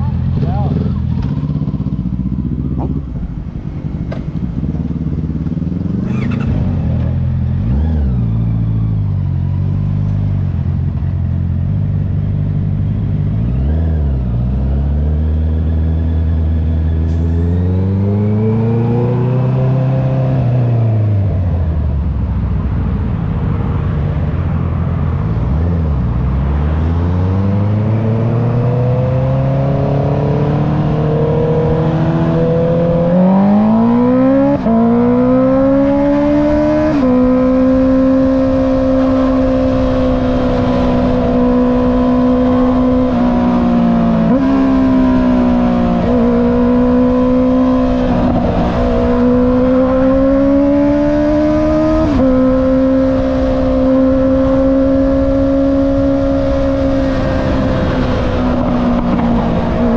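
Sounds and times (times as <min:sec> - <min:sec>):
motorcycle engine revving: 0:00.0 - 0:22.1, 0:25.4 - 0:59.9.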